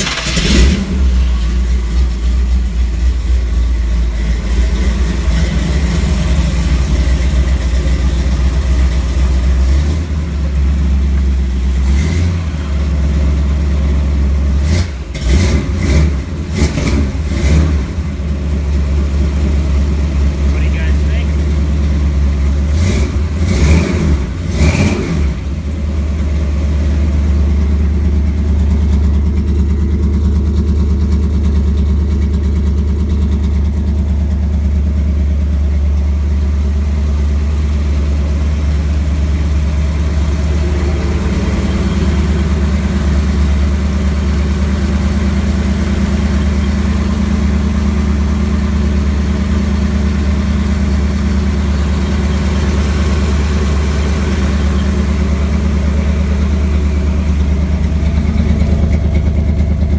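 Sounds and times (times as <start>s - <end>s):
pickup engine revving and idling: 0.0s - 59.9s.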